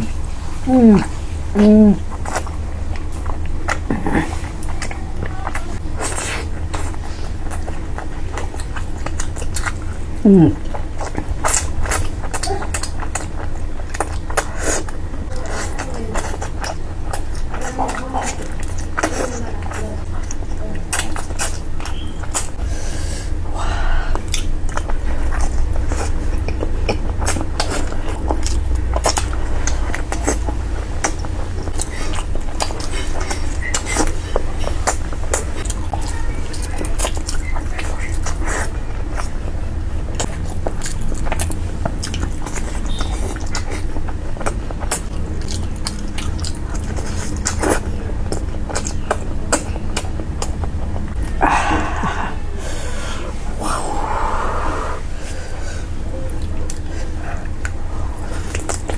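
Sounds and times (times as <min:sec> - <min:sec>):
low hum: 0:00.0 - 0:14.2, 0:21.7 - 0:58.9
person chewing with wet smacks: 0:00.0 - 0:58.9.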